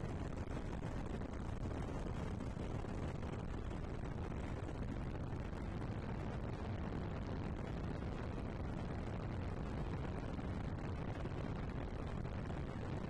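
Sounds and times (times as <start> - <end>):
aircraft rumble heard on board: 0.0 - 13.0.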